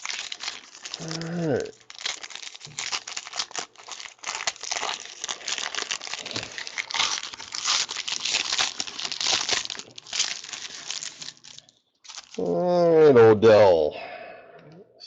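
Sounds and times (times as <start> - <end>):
plastic wrapping crinkling: 0.0 - 12.5.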